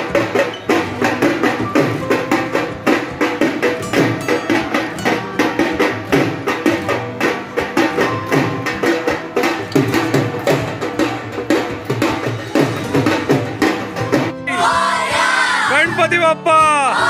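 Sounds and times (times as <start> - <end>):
frame drums beaten fast: 0.0 - 15.0.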